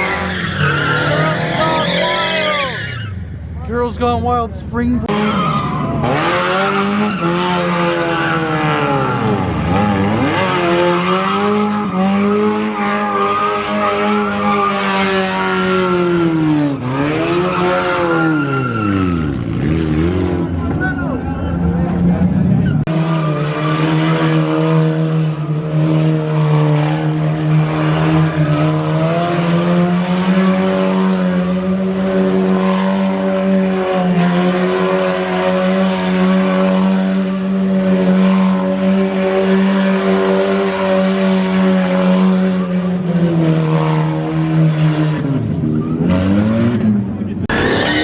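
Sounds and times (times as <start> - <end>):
tyres squealing in a burnout: 0.0 - 3.4, 5.1 - 21.6, 22.6 - 43.1, 47.5 - 48.0
car engine at high revs: 4.0 - 48.0.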